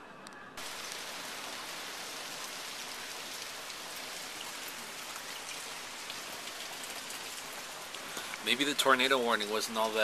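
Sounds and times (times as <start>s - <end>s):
heavy rain: 0.6s - 10.0s
raindrops ticking: 0.6s - 10.0s.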